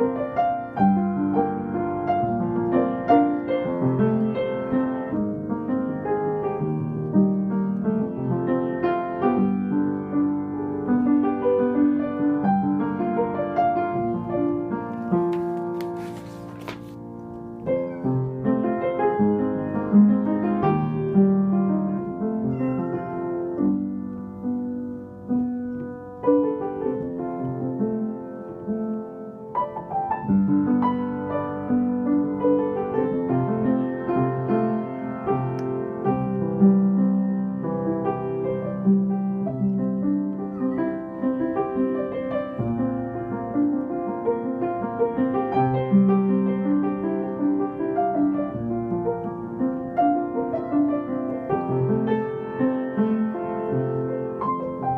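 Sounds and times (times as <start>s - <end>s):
upright piano playing: 0.0s - 54.9s.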